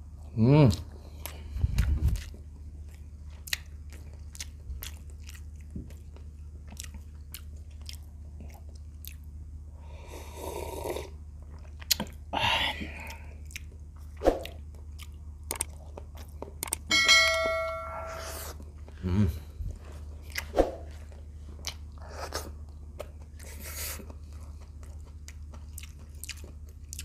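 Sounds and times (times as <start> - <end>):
chewing with lip-smacks: 0.2 - 9.5, 11.2 - 12.3, 12.9 - 16.9, 18.4 - 27.0.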